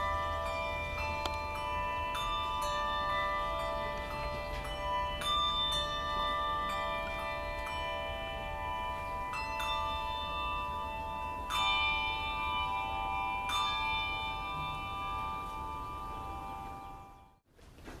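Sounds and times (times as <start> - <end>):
handbells ringing: 0.0 - 17.4.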